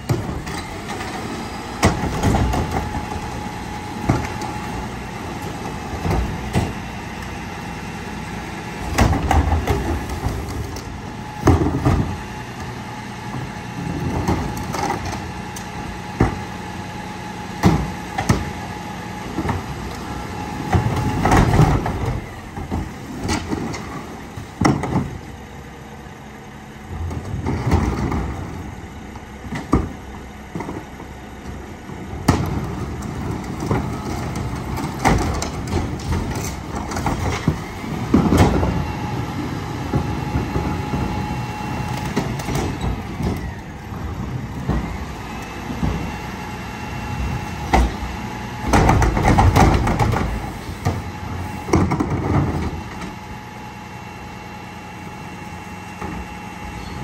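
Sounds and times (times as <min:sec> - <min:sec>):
garbage truck diesel engine: 0:00.0 - 0:57.0
steady mechanical whine: 0:00.0 - 0:57.0.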